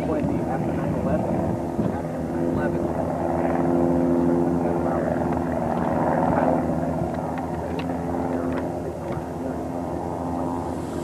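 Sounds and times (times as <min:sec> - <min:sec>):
propeller aircraft droning overhead: 0:00.0 - 0:11.0.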